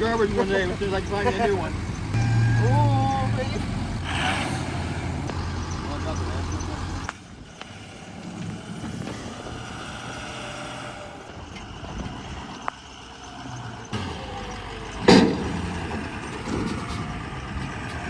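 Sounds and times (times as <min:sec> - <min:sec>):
diesel pickup idling: 0:00.0 - 0:18.0.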